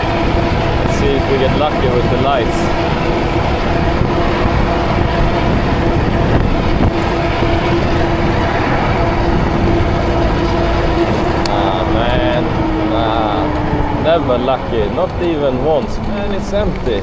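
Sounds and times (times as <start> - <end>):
electric motor whine: 0.0 - 17.0
road noise: 0.0 - 17.0
wind rushing over microphone: 0.0 - 17.0.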